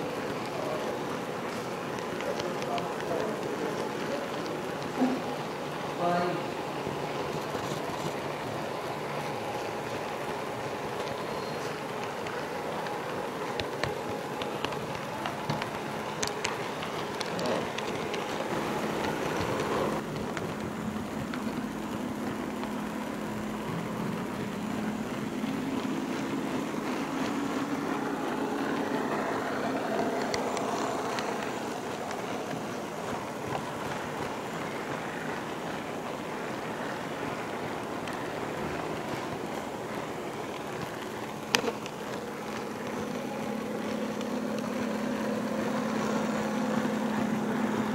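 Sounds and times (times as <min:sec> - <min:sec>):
faint steady hum: 0:00.0 - 0:47.9.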